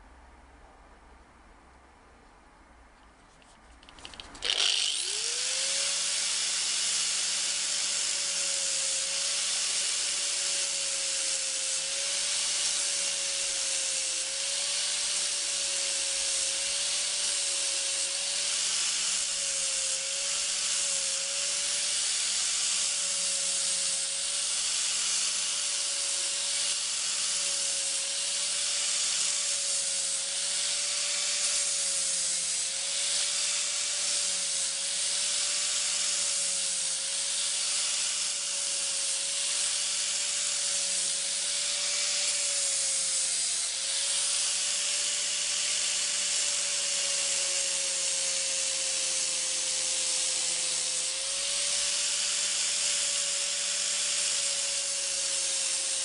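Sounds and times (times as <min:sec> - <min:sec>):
angle grinder motor whine: 0:04.0 - 0:56.0
sanding disc hissing on wood: 0:04.3 - 0:56.0.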